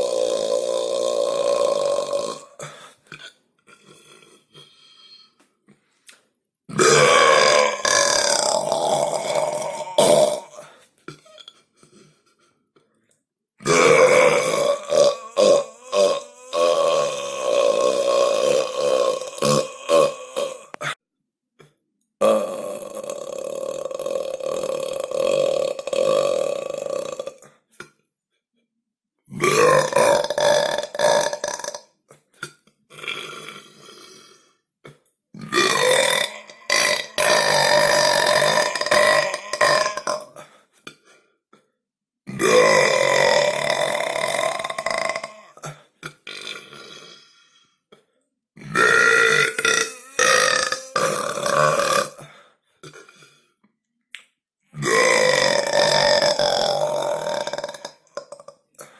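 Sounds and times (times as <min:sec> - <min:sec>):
long drawn-out belches: 0:00.0 - 0:04.4, 0:06.7 - 0:11.6, 0:13.6 - 0:21.0, 0:22.2 - 0:27.5, 0:29.3 - 0:40.5, 0:42.3 - 0:47.3, 0:48.6 - 0:53.4, 0:54.7 - 0:58.9.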